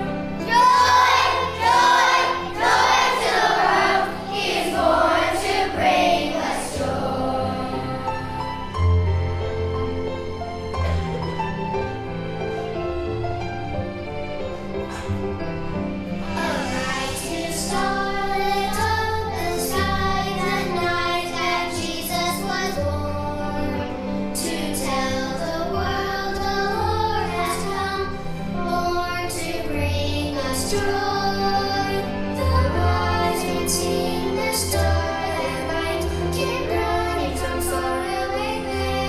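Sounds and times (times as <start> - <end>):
children singing: 0.0 - 9.9, 14.5 - 39.0
instrumental accompaniment: 0.0 - 39.0.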